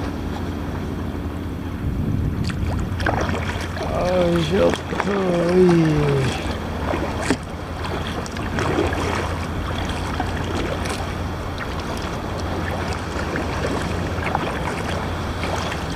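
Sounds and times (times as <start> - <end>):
water lapping against kayak: 0.0 - 15.9
wind buffeting microphone: 0.0 - 15.9.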